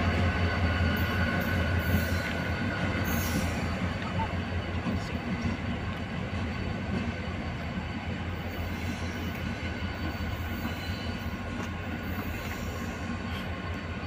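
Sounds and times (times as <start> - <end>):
train low drone: 0.0 - 14.0
wheels squealing on rails: 0.0 - 14.0.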